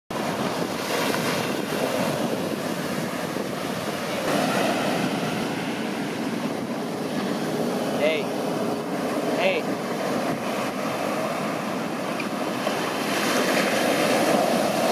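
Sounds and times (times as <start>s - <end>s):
ocean waves breaking: 0.1s - 14.9s
whitewater rushing up sand: 0.1s - 14.9s.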